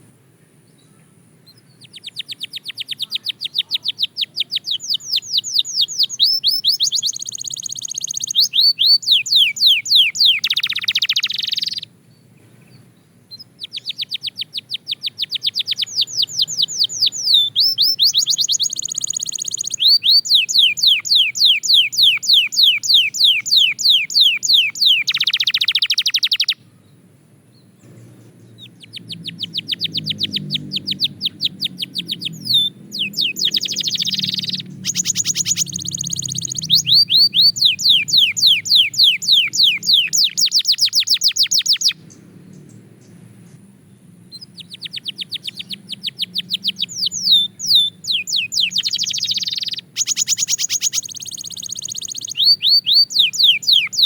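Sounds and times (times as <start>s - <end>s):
canary singing: 0.8s - 43.2s, 44.1s - 54.0s.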